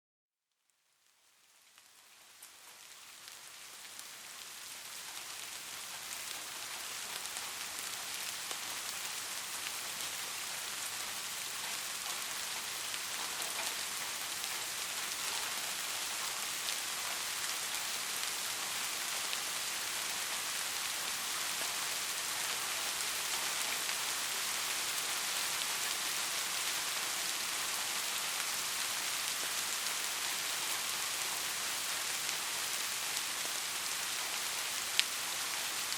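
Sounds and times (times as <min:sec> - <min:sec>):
rain falling on a surface: 0:00.6 - 0:35.9.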